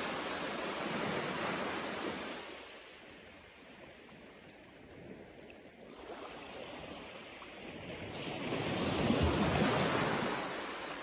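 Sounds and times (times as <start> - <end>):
wave washing over sand: 0.0 - 11.0.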